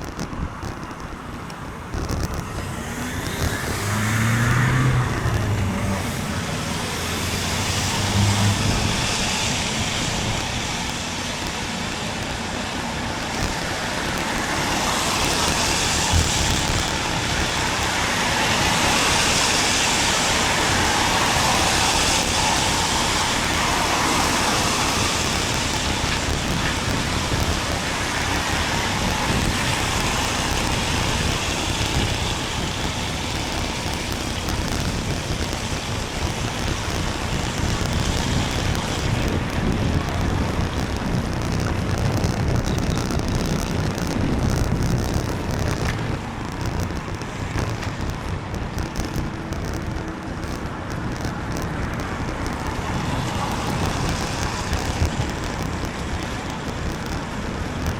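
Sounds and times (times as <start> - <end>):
car tyres hissing on wet road: 0.0 - 57.9
low traffic rumble: 0.0 - 57.9.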